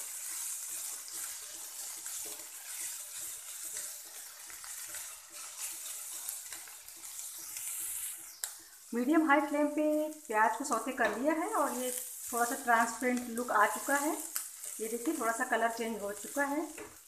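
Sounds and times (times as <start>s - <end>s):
onions frying hiss: 0.0s - 17.0s
spatula scraping pan: 0.0s - 17.0s.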